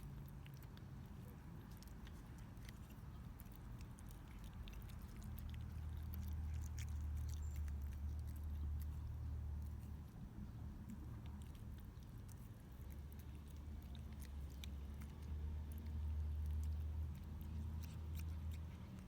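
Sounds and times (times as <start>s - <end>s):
cat chewing food: 0.0s - 19.0s.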